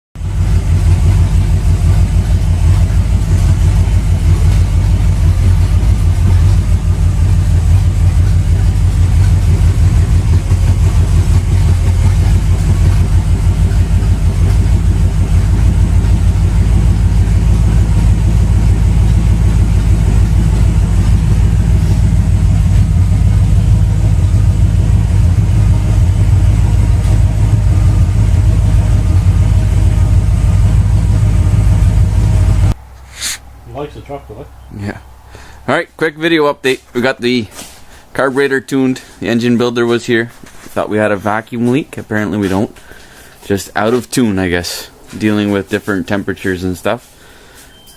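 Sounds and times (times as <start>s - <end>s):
truck engine idling: 0.2s - 47.9s.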